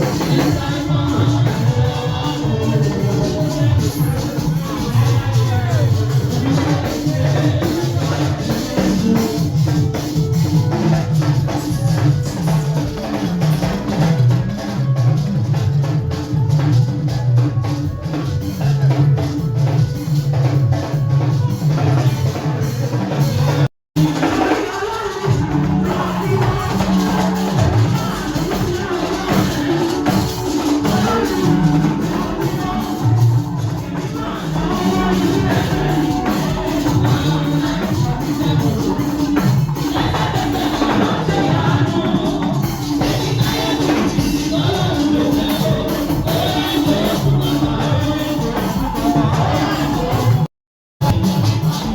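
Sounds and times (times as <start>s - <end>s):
church praise music: 0.0s - 51.9s
drums: 0.0s - 51.9s.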